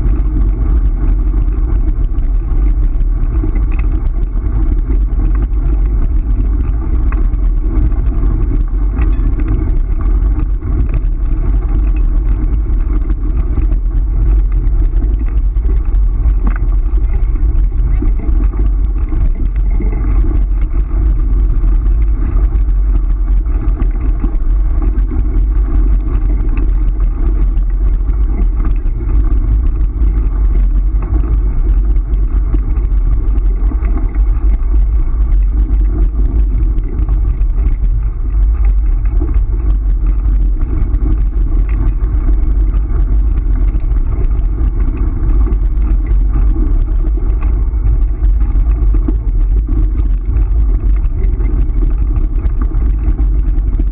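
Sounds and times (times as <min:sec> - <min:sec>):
tyres rolling over gravel: 0:00.0 - 0:53.9
wind rumble on microphone: 0:00.0 - 0:53.9.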